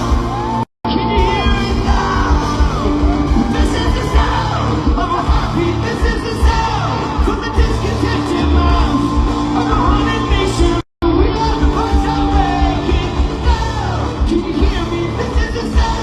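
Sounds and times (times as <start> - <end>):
live rock band playing: 0.0 - 16.0
person singing and yelling: 0.0 - 16.0.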